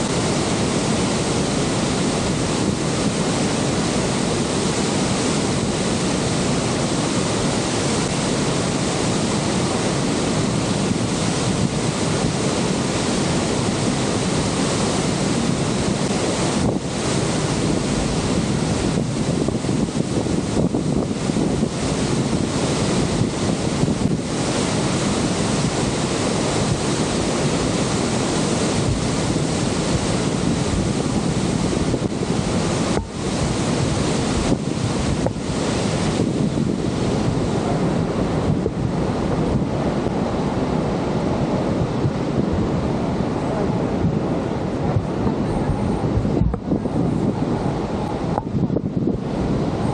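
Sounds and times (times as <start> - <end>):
waterfall roaring: 0.0 - 49.9
wind buffeting microphone: 0.0 - 49.9.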